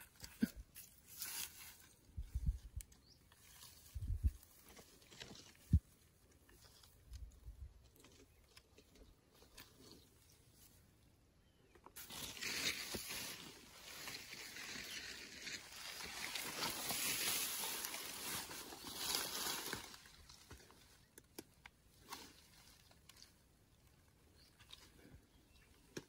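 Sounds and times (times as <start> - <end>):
grass rustling against phone: 0.0 - 26.0.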